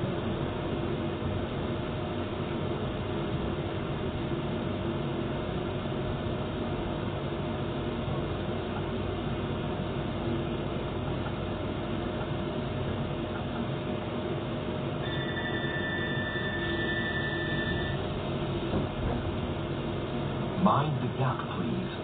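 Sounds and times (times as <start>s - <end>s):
train running hum and rumble: 0.0s - 22.0s.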